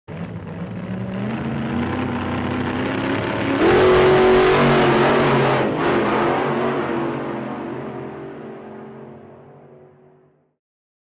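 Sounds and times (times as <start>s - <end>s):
car engine revving: 0.1s - 9.9s.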